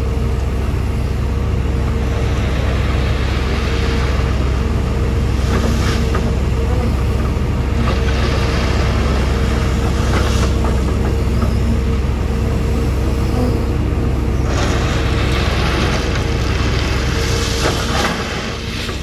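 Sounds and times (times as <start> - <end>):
heavy diesel machinery rumbling: 0.0 - 19.0.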